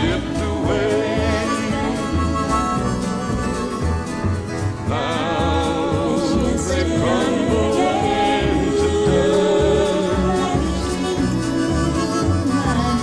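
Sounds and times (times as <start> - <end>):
country song with vibrato melody: 0.0 - 13.0
regular bass beat: 0.0 - 13.0.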